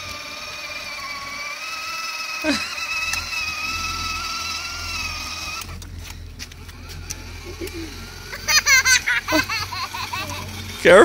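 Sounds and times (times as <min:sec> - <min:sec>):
toy car electric motor whine: 0:00.0 - 0:11.0.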